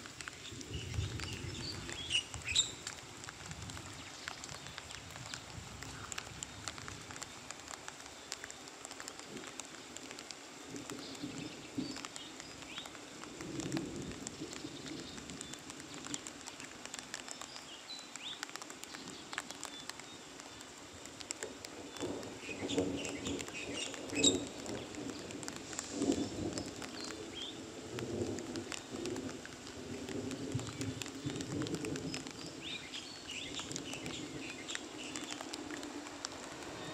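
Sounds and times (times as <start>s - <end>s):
light rain pattering: 0.0s - 36.9s
birds chirping: 0.4s - 3.0s, 3.8s - 27.7s, 32.0s - 36.9s.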